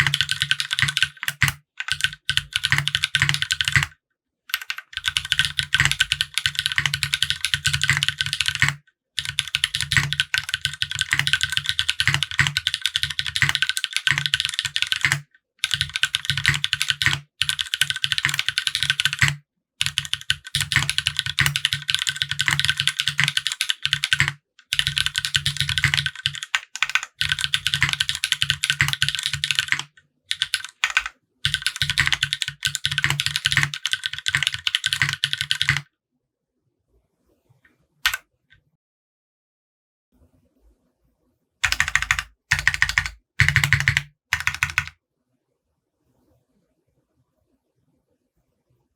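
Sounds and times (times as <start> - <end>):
mechanical keyboard typing: 0.0 - 35.9, 41.6 - 45.0.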